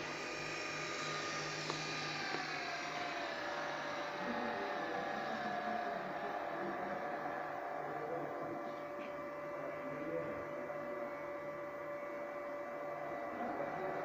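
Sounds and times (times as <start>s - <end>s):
servomotor humming with high whine: 0.0s - 14.0s.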